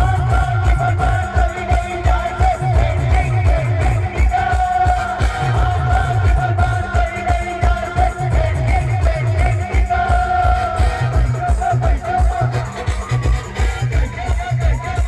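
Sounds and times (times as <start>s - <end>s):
fast heavy drum beat: 0.0s - 15.0s.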